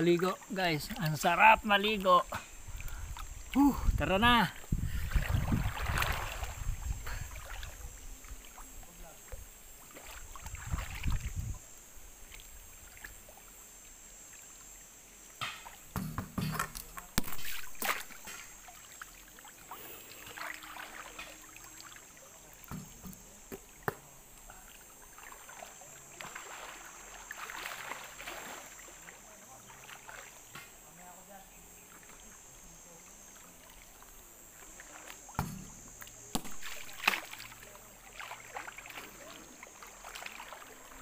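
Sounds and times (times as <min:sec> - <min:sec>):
pool water splashing: 0:00.0 - 0:41.0
steady high hiss: 0:00.0 - 0:41.0.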